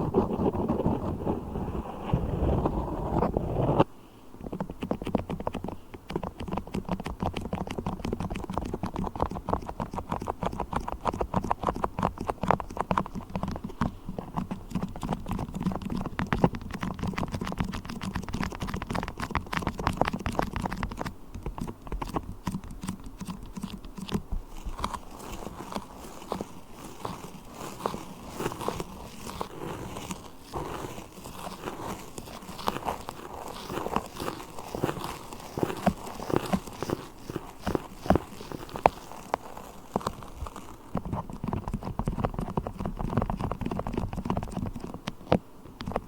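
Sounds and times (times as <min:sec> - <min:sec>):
sticky clicks and crackles of beeswax: 0:04.4 - 0:46.0.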